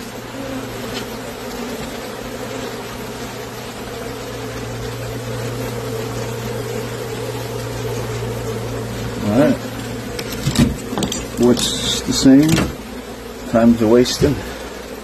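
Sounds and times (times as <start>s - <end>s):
constant low hum: 0.0s - 15.0s
honeybees buzzing: 0.0s - 15.0s.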